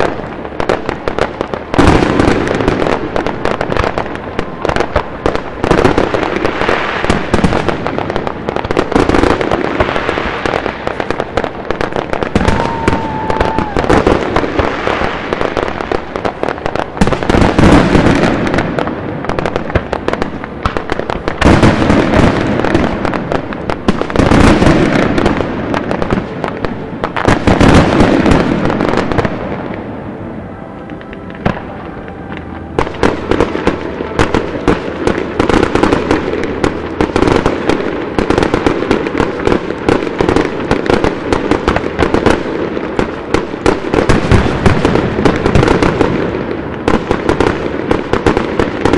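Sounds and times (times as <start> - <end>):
fireworks bangs and crackle: 0.0 - 48.9.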